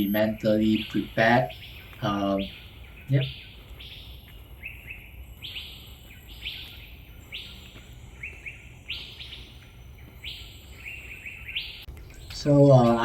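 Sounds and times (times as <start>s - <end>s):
bird calling harsh downward notes: 0.0s - 13.0s.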